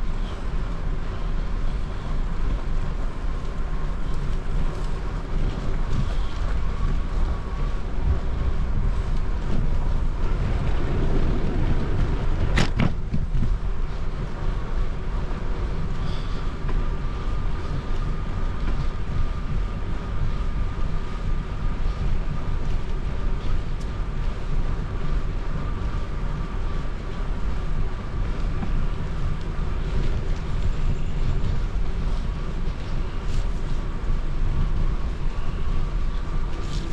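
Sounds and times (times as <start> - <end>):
faint steady whine: 0.0 - 36.9
wind buffeting microphone: 0.0 - 36.9
bicycle rolling on trail: 1.6 - 36.9.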